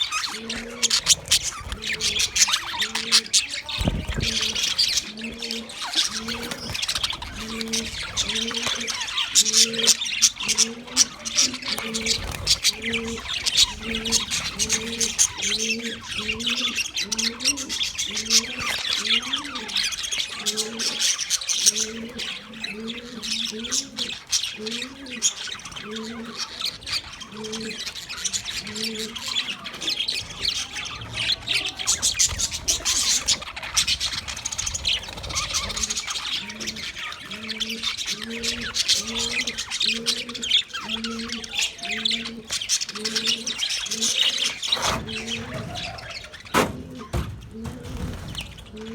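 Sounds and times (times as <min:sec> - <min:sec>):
budgies chattering: 0:00.0 - 0:48.9.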